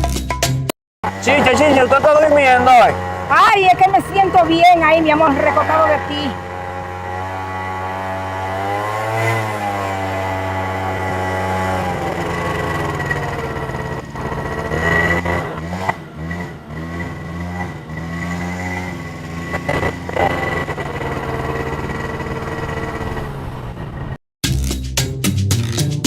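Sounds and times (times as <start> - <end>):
motorcycle engine running: 1.0 - 24.2.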